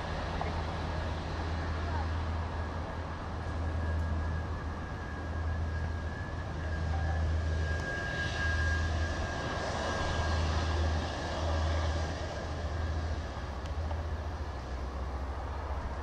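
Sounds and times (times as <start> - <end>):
airliner jet engines taxiing: 0.0 - 16.0.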